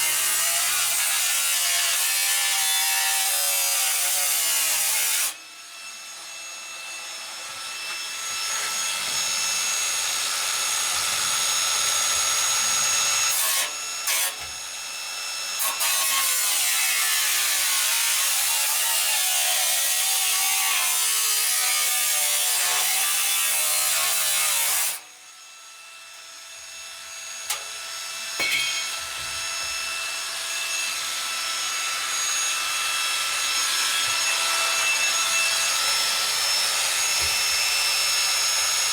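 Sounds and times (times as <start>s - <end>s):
power tool cutting metal: 0.0s - 38.9s.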